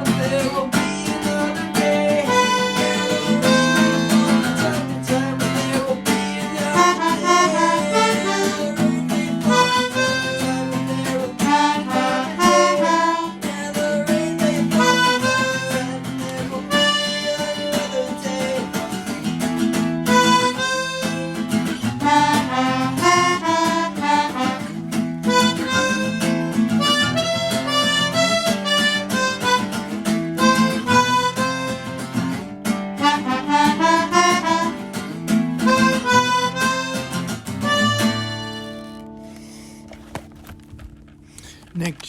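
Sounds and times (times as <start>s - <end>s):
harmonica melody: 0.0s - 40.3s
acoustic guitar: 0.0s - 42.0s.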